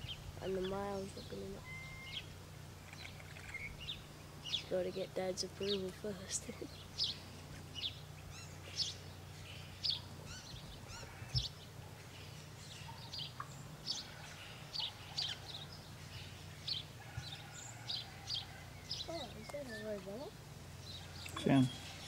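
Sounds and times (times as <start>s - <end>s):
birds chirping: 0.0s - 22.0s
low steady hum: 0.0s - 22.0s.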